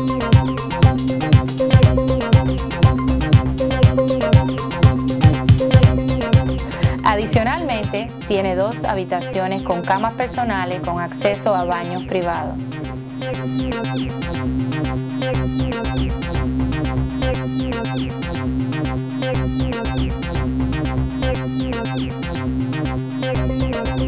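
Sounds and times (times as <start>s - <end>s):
upbeat electronic music: 0.0s - 24.0s.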